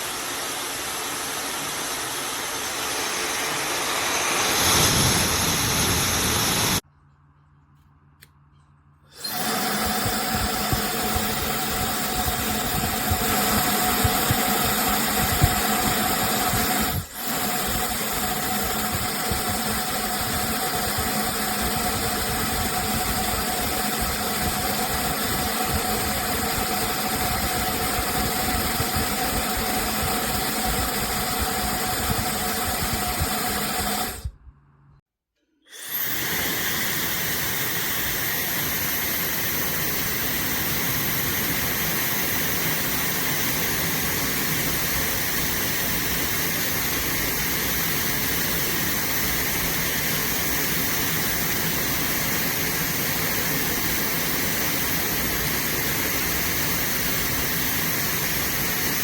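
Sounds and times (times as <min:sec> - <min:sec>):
hair dryer running: 0:00.0 - 0:06.8, 0:09.1 - 0:34.4, 0:35.7 - 0:59.0.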